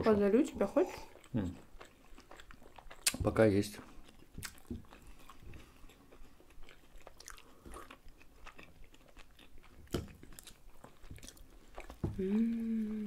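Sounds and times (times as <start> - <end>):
mouth chewing soft food: 0.4 - 13.0.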